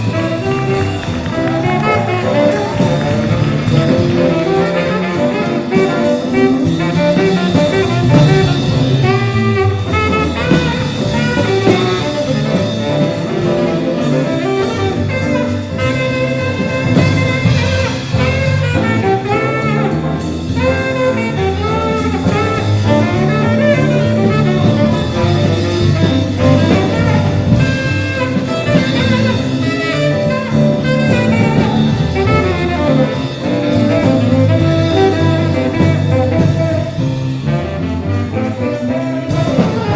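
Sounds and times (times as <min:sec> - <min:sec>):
bass line: 0:00.0 - 0:39.9
drum kit with cymbals: 0:00.0 - 0:39.9
saxophones and brass: 0:00.0 - 0:39.9.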